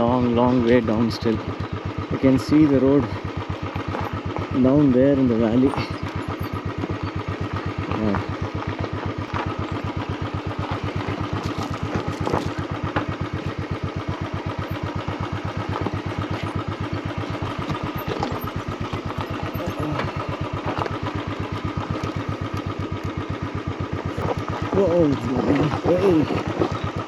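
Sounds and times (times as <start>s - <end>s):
knocks and rattles on rocky ground: 0.0s - 27.0s
motorcycle engine at low revs: 0.0s - 27.0s.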